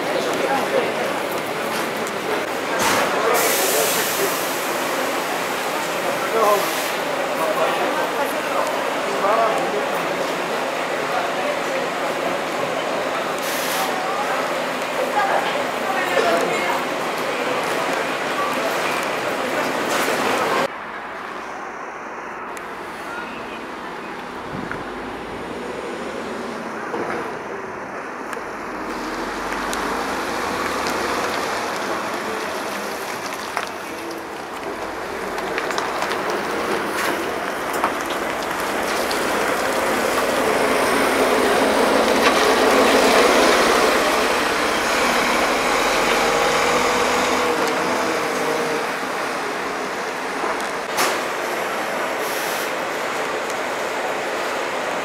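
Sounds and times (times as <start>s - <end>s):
bus diesel engine passing: 0.0s - 55.0s.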